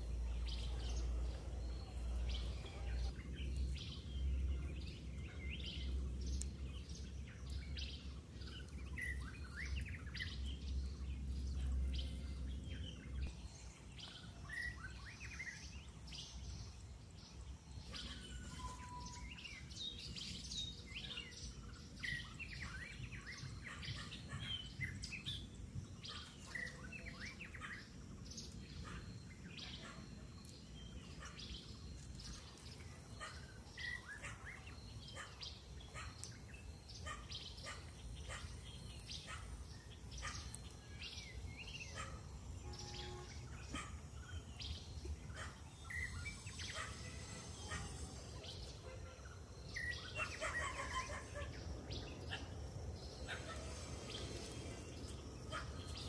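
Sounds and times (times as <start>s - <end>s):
outdoor background noise: 0.0s - 56.0s
wild birds chirping: 0.0s - 56.0s.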